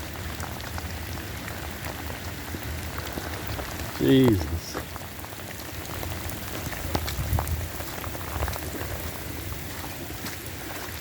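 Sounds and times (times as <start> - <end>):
heavy rain: 0.0 - 11.0
rain drops hitting close by: 0.0 - 11.0.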